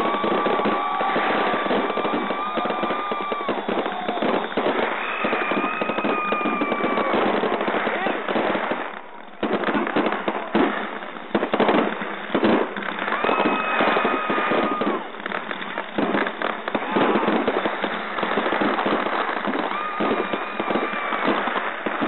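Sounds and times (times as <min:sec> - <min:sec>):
firework whistle: 0:00.0 - 0:22.0
fireworks crackling and popping: 0:00.0 - 0:22.0
sharp firework bangs: 0:00.0 - 0:22.0.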